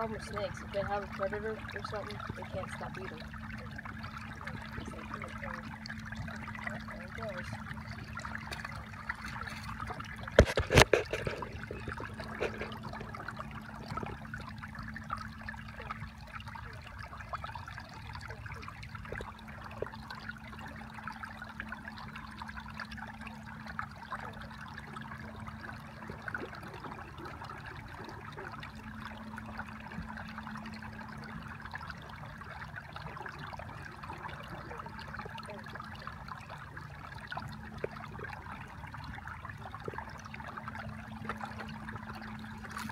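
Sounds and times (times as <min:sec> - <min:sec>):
low hum: 0:00.0 - 0:42.9
water trickling: 0:00.0 - 0:42.9.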